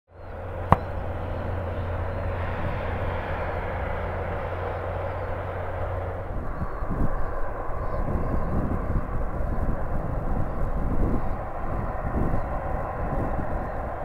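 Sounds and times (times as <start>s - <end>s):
jet engines humming: 0.1s - 14.0s.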